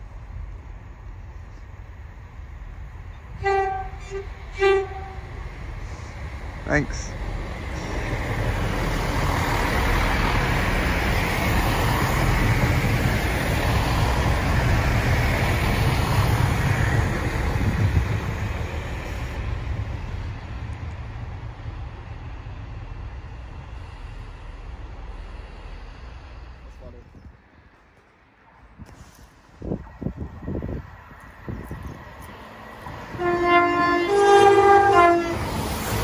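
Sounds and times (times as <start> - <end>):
diesel train passing: 0.0 - 36.0.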